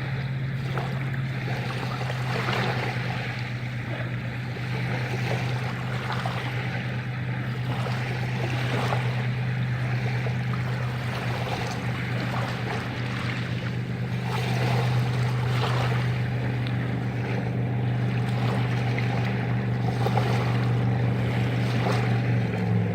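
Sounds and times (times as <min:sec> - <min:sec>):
low engine hum: 0:00.0 - 0:22.9
sea waves splashing: 0:00.0 - 0:22.9.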